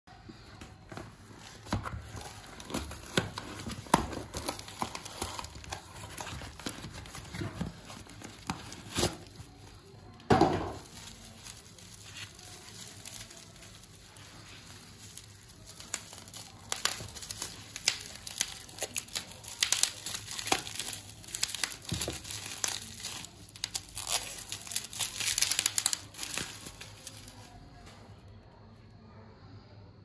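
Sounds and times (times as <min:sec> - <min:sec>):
cardboard and plastic rustling: 0:00.1 - 0:28.2
bubble wrap crinkling: 0:00.2 - 0:28.2.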